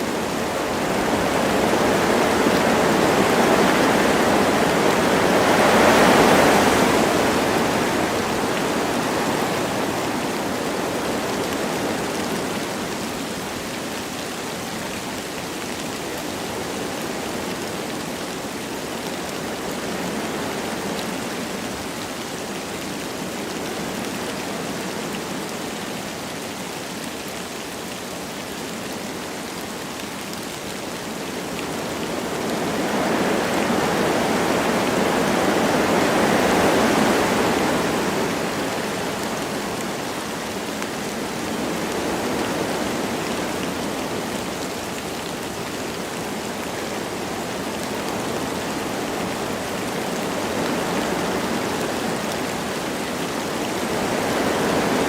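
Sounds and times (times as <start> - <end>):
light rain falling: 0.0 - 55.0
wind through trees: 0.0 - 55.0.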